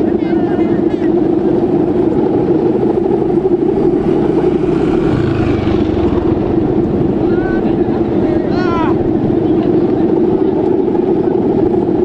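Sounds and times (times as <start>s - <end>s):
deep rumble: 0.0s - 12.0s
kite hummer buzzing drone: 0.0s - 12.0s.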